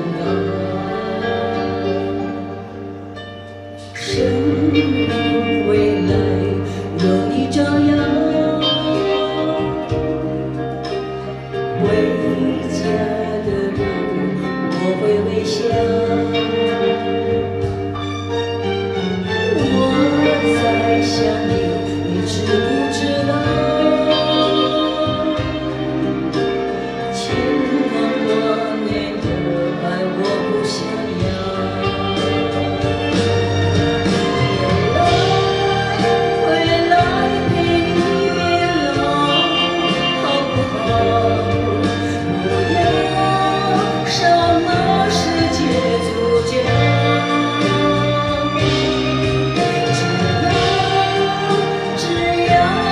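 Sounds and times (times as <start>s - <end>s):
woman singing: 0.0s - 3.0s, 3.7s - 52.9s
backing music: 0.0s - 52.9s
instrumental accompaniment: 0.0s - 52.9s.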